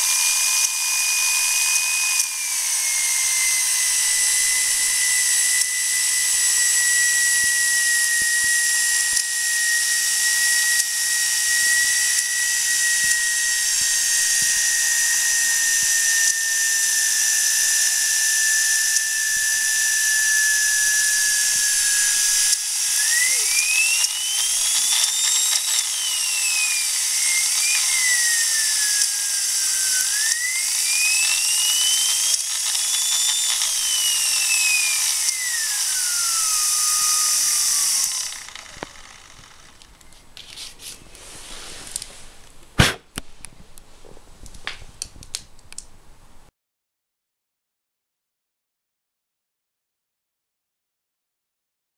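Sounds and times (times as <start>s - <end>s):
model steam turbine whining: 0.0s - 43.0s.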